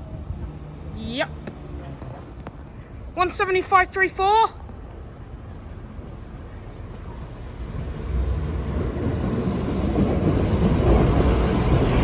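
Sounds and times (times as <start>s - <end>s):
diesel train rumble: 0.0s - 12.0s.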